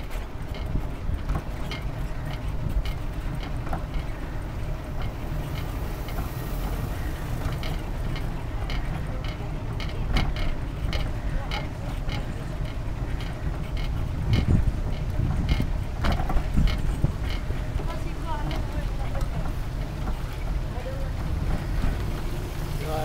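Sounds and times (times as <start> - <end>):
bicycle clicking: 0.0 - 23.0
rumble of wind and road: 0.0 - 23.0.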